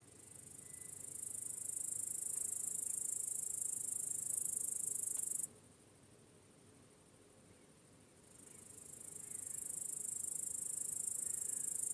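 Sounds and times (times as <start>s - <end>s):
faint low background hiss: 0.0s - 11.9s.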